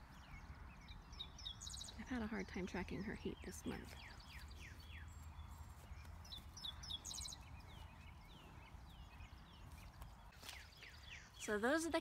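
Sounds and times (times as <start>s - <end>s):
bird trill: 0.0s - 12.0s
birds chirping: 0.0s - 12.0s.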